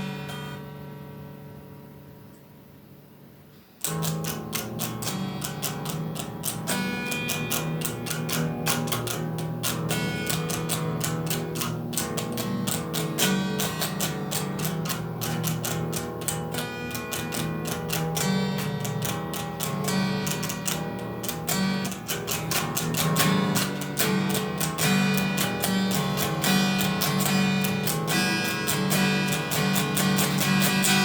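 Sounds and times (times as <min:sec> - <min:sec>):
guitar-led instrumental band music: 0:03.8 - 0:31.0.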